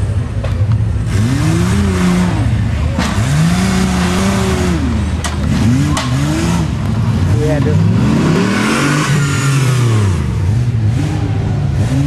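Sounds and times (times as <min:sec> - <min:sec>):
engine revving: 0:01.0 - 0:12.0.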